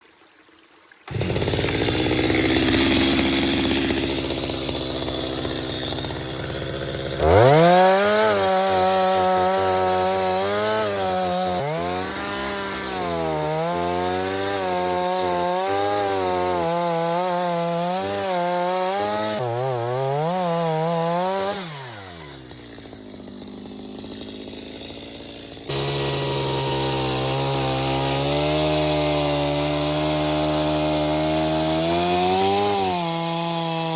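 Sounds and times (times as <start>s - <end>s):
chainsaw cutting wood: 1.1s - 33.9s.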